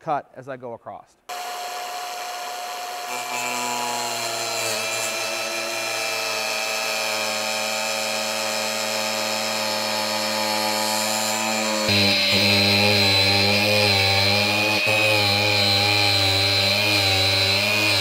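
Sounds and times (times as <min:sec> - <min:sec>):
angle grinder cutting plastic: 0:01.3 - 0:18.0.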